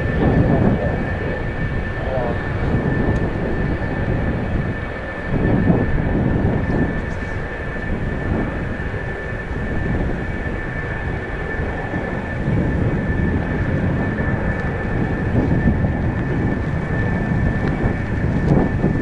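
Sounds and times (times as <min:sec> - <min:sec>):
distant turboprop engine drone: 0:00.0 - 0:19.0
wind buffeting microphone: 0:00.0 - 0:19.0.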